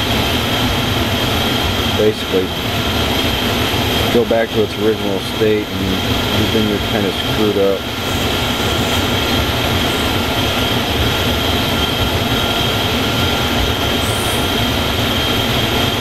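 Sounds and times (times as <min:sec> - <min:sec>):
handheld torch burning: 0:00.0 - 0:16.0.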